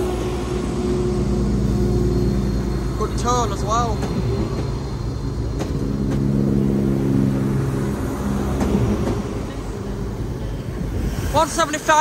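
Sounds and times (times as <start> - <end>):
low rumble: 0.0 - 11.4
train diesel engines under power: 0.0 - 12.0.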